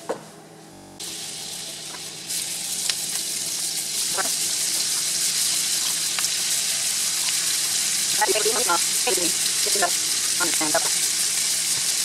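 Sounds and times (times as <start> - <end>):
oil sizzling in a frying pan: 1.0 - 12.0.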